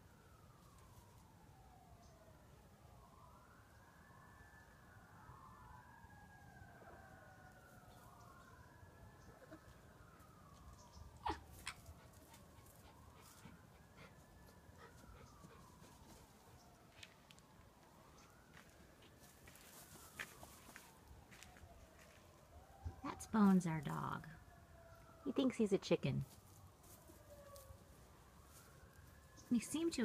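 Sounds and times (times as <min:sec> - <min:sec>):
distant siren wailing: 0:00.0 - 0:30.0.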